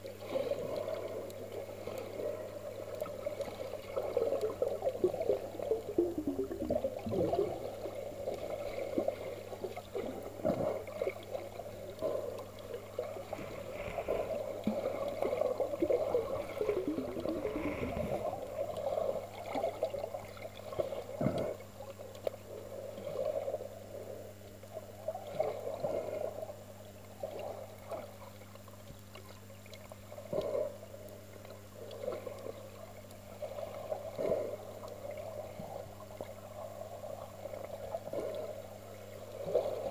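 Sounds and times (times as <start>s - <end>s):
steady low hum: 0.0s - 39.9s
underwater water sloshing: 0.0s - 39.9s.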